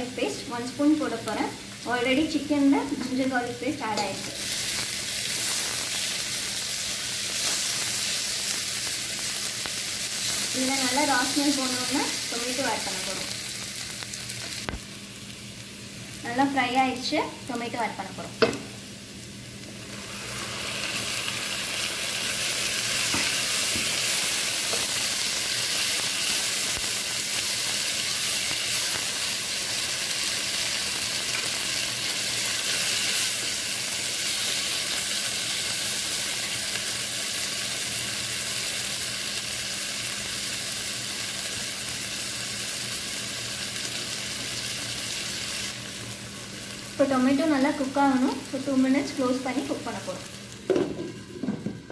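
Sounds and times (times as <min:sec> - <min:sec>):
tomatoes sizzling in hot oil: 0:00.0 - 0:51.9.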